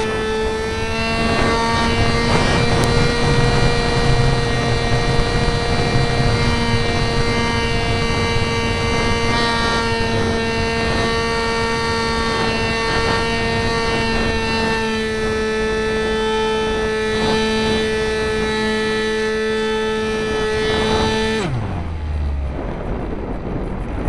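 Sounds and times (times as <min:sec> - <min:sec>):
electric propeller motor whine: 0:00.0 - 0:24.0
wind rushing: 0:00.0 - 0:24.0.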